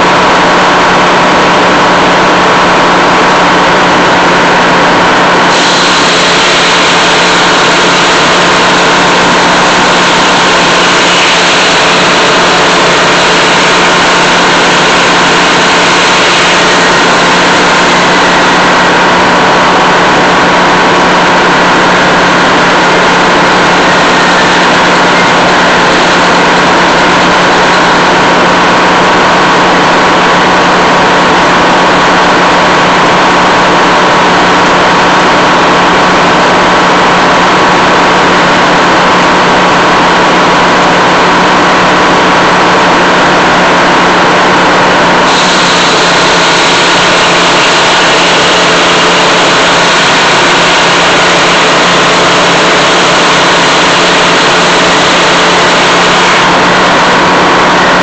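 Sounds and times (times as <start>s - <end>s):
sawmill mechanical hum: 0.0s - 58.0s.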